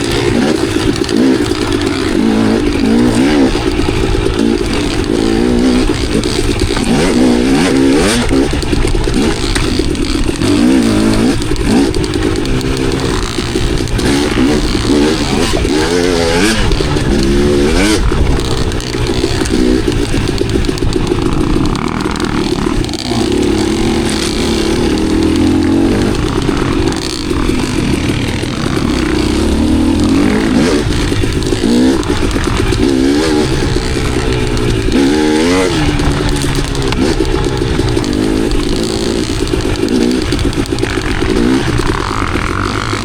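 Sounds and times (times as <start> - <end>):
dirt bike engine throttle blips: 0.0 - 43.0.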